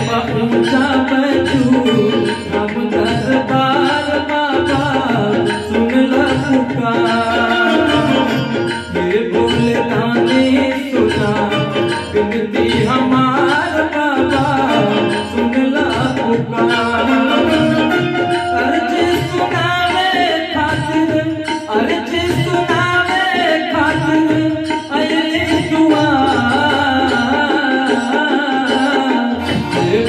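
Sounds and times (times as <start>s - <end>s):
harmonium: 0.0s - 30.0s
man singing devotional song: 0.0s - 30.0s
tabla rhythm loop: 0.0s - 30.0s.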